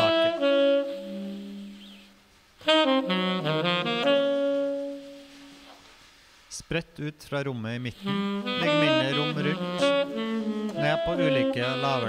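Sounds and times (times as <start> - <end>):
saxophone playing free jazz: 0.0 - 5.9, 8.0 - 12.0.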